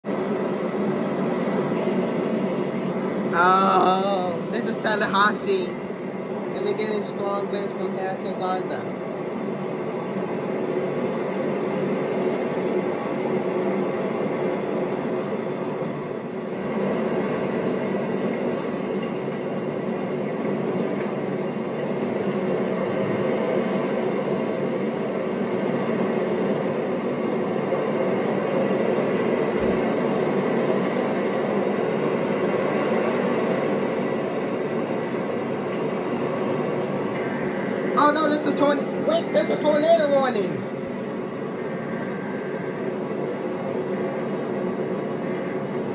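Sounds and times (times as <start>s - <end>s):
faint steady tones: 0.0s - 45.9s
loud rushing wind noise: 0.0s - 45.9s.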